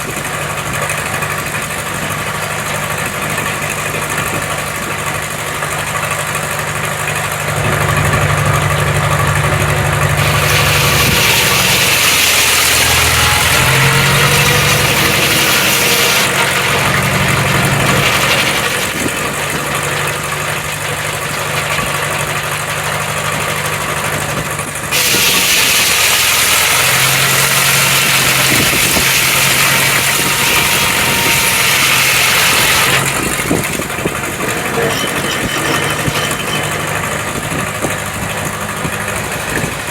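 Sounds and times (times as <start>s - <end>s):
saw cutting through wood: 0.0s - 39.9s
sawmill engine running: 0.0s - 39.9s.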